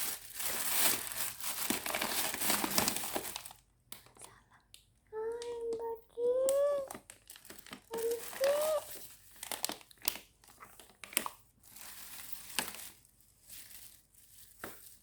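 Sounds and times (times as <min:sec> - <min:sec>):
packaging crinkling: 0:00.0 - 0:04.4, 0:06.4 - 0:15.0.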